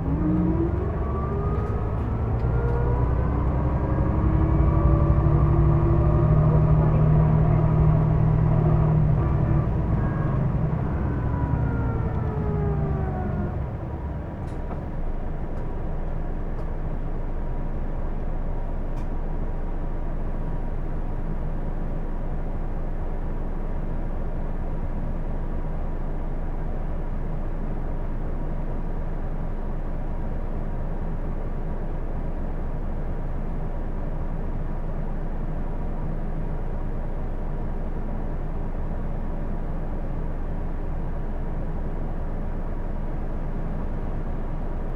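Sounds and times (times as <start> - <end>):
bus slowing whine: 0.0 - 44.9
diesel engine rumble: 0.0 - 44.9.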